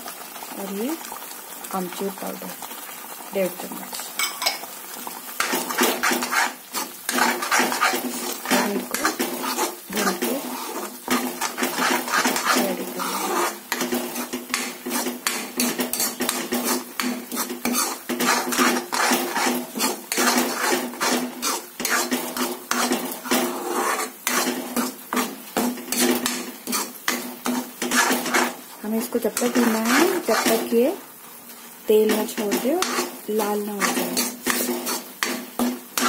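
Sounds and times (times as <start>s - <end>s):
metal spoon scraping a pan: 4.2s - 4.7s, 5.4s - 30.9s, 32.0s - 36.0s.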